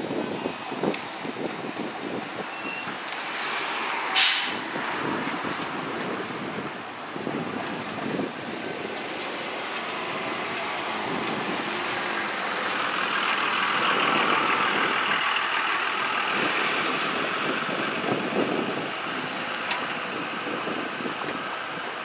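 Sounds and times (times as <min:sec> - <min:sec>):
excavator engine: 0:00.0 - 0:22.0
rushing noise: 0:00.0 - 0:22.0.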